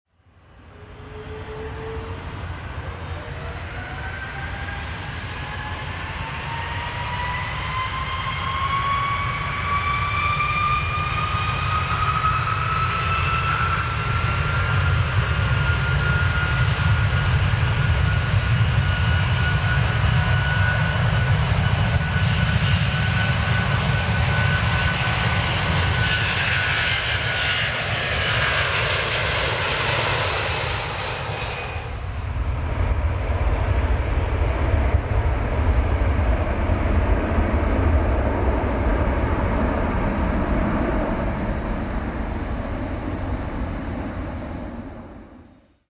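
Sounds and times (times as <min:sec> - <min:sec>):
airplane engine roar: 0:00.2 - 0:45.9.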